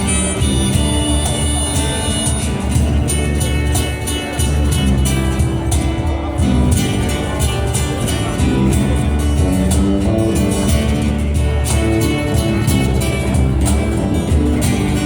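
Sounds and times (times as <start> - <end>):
band playing a song: 0.0 - 15.0.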